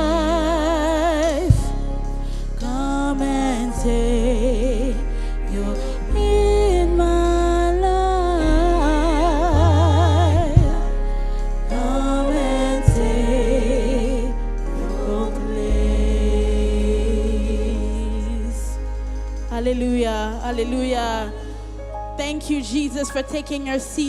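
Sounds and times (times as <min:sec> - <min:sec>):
gospel singing with vibrato: 0:00.0 - 0:24.0
steady bass: 0:00.0 - 0:24.0.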